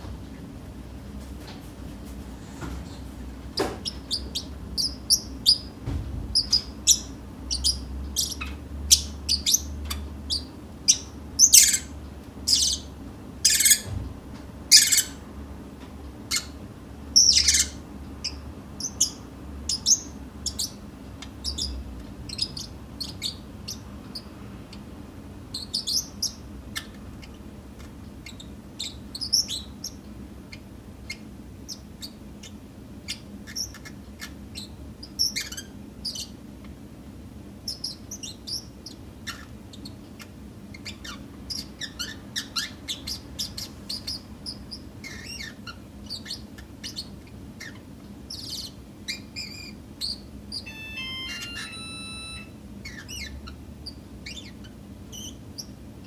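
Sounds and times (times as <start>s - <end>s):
parrotlet chirping: 3.5s - 13.9s, 14.7s - 15.3s, 16.2s - 24.9s, 25.5s - 36.4s, 37.6s - 55.8s.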